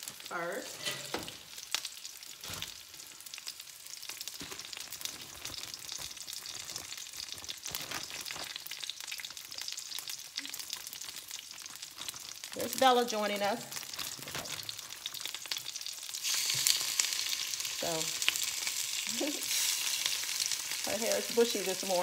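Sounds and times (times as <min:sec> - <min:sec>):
vegetables sizzling in skillet: 0:00.0 - 0:22.0.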